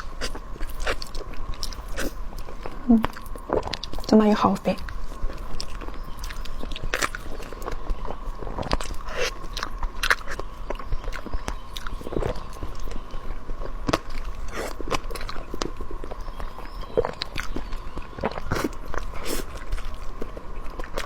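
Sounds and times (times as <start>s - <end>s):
person chewing wetly: 0.0s - 4.1s, 4.7s - 21.0s.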